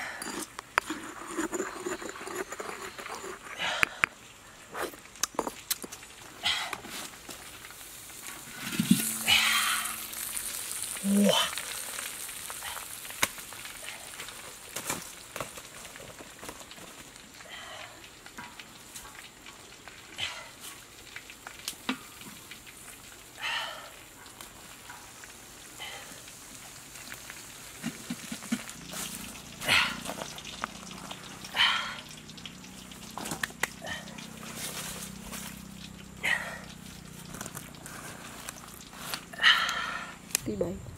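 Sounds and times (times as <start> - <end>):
food sizzling in a wok: 6.0 - 40.6.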